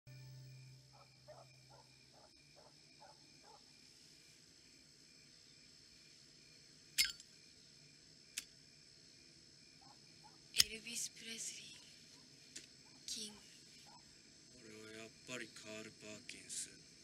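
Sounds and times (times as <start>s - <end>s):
crickets droning: 0.1s - 17.0s.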